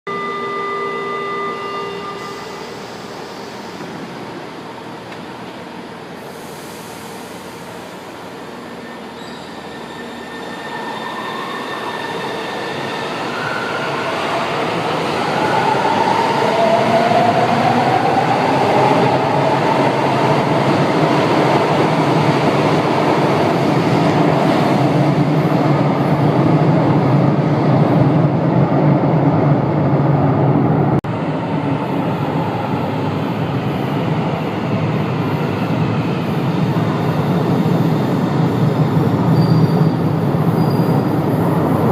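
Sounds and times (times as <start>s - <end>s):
metro train rumbling: 0.2s - 41.9s.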